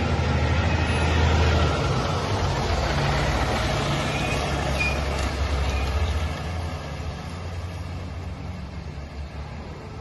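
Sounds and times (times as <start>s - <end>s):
truck engine passing by: 0.0s - 10.0s.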